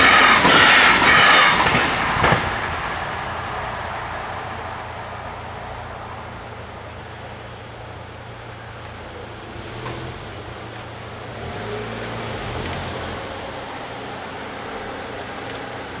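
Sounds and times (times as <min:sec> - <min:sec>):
train passing: 0:00.0 - 0:16.0.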